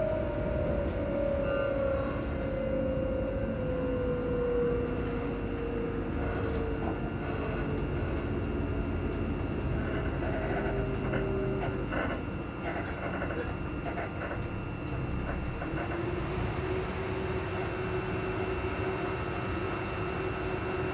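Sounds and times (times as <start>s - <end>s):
train rumbling on rails: 0.0s - 20.9s
train traction motors whining: 0.0s - 20.9s.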